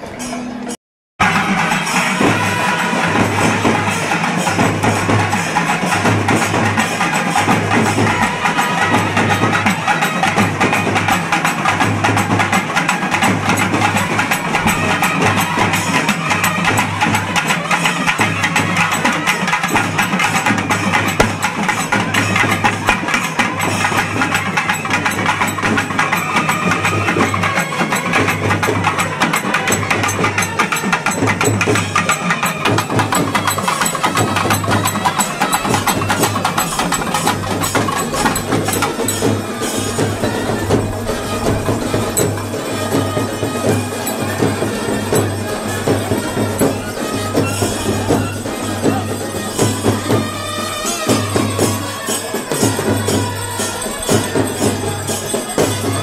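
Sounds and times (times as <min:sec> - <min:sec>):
drum ensemble playing fast rhythm: 0:01.2 - 0:56.0.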